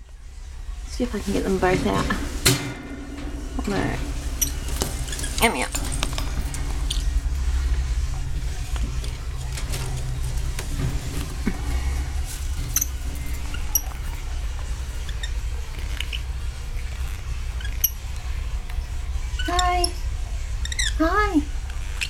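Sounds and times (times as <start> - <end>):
clicks and light rattling: 0.0 - 20.1
lorikeets chirping: 0.0 - 22.0
microphone handling rumble: 0.0 - 22.0.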